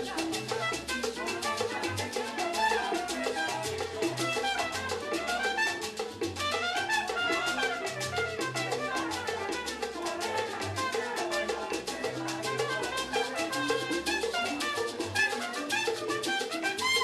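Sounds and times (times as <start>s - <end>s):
brass melody: 0.0s - 17.0s
busy percussion: 0.0s - 17.0s.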